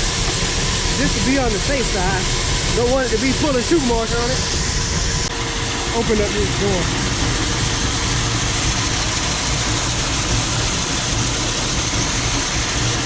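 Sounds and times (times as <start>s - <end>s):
grain elevator and auger humming: 0.0s - 13.0s.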